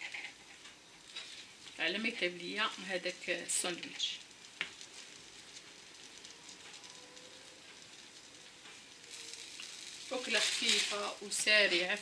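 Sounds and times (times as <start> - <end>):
faint sizzle in a frying pan: 0.0 - 12.0.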